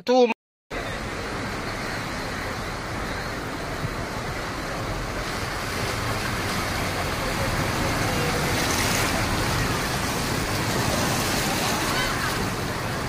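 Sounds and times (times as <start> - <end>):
floodwater rushing: 0.7 - 13.0.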